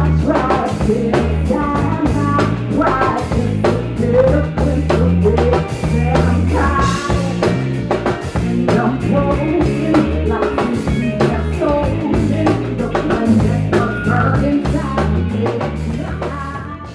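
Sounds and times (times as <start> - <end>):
drum kit: 0.0 - 16.9
pulsing bass line: 0.0 - 16.9.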